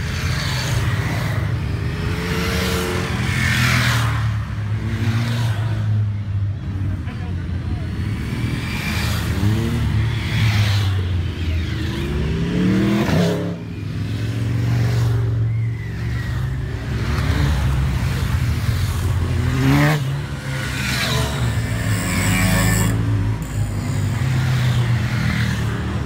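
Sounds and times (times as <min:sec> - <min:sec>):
motorcycles riding past: 0:00.0 - 0:26.0.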